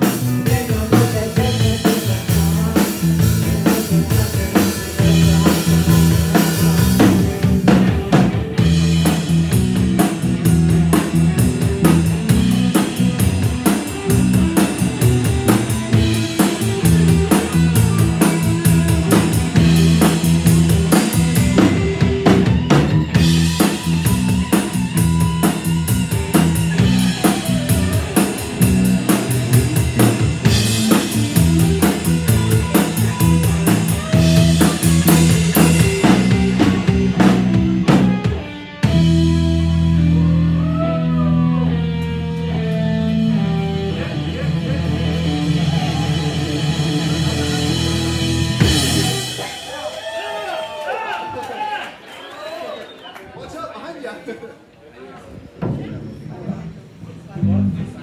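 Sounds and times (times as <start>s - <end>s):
sustained bass notes: 0.0s - 49.6s, 57.3s - 58.0s
drum kit beat: 0.0s - 50.4s
live rock band playing: 0.0s - 51.2s.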